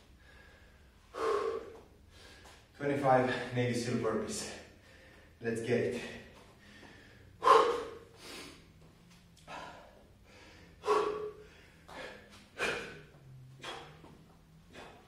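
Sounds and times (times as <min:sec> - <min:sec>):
man breathing hard: 0:00.0 - 0:02.7, 0:04.3 - 0:15.0.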